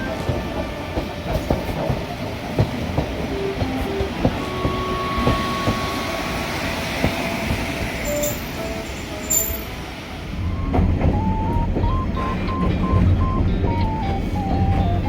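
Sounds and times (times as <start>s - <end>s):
train rumbling: 0.0s - 15.0s
wheels clacking over rail joints: 0.0s - 15.0s.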